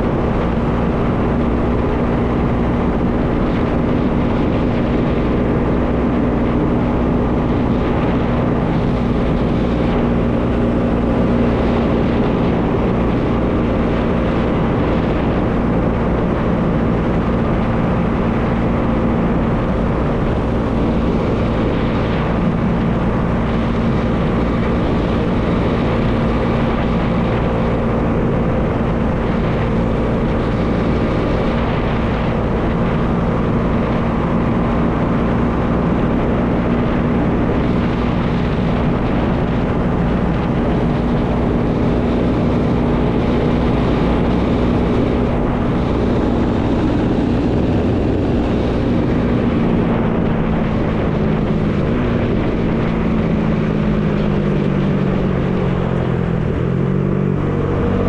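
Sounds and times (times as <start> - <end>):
motorcycle engine cruising: 0.0 - 58.0
wind on microphone: 0.0 - 58.0.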